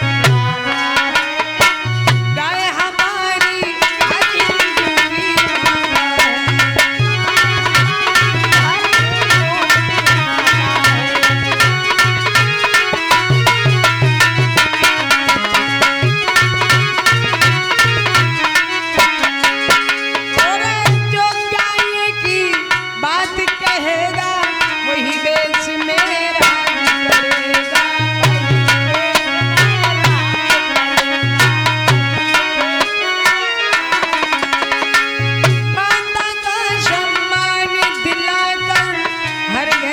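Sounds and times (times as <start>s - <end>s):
fast hand-drum rhythm: 0.0s - 24.5s, 25.3s - 39.9s
instrumental melody line: 0.0s - 39.9s.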